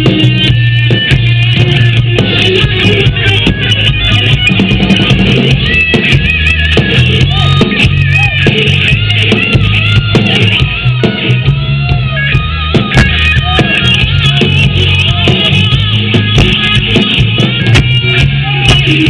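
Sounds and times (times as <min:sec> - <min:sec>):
rock music: 0:00.0 - 0:19.0.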